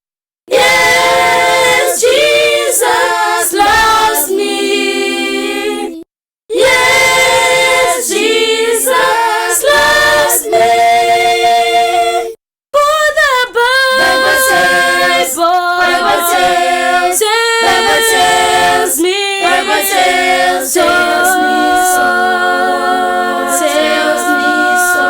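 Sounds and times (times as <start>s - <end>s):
choir singing a hymn: 0.5s - 12.4s, 13.1s - 25.0s.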